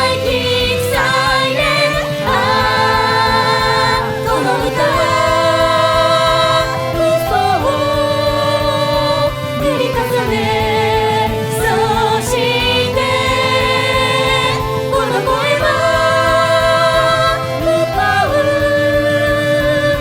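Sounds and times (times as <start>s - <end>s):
voices singing pop song: 0.0s - 20.0s.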